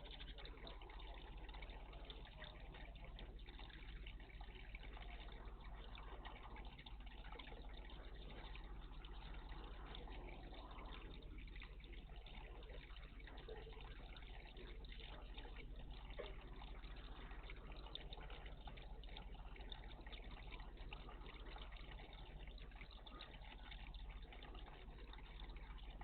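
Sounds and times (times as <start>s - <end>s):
water trickling in bird bath: 0.0s - 26.0s.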